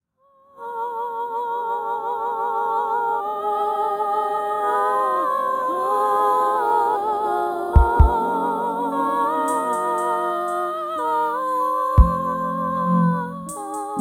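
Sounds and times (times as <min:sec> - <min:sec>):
wordless vocal harmony: 0:00.4 - 0:14.0.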